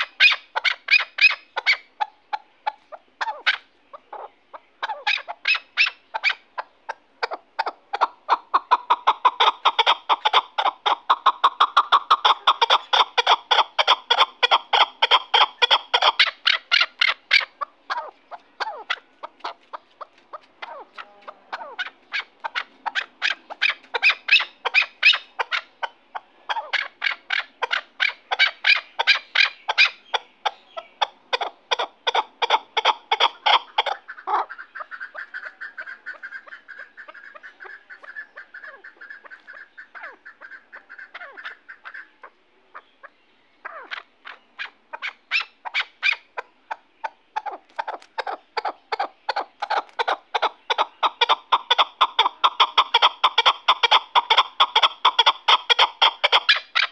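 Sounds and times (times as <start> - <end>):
partridge chuck calls: 0.0 - 56.9.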